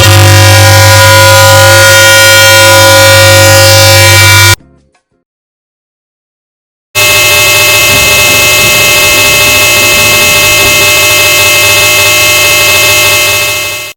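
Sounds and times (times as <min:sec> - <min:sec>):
distorted buzzing drone: 0:00.0 - 0:04.6, 0:07.0 - 0:13.9.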